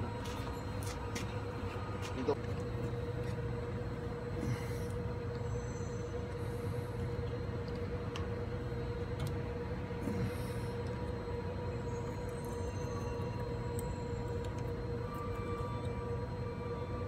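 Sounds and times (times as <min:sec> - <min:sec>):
machine drone with low hum: 0:00.0 - 0:17.0.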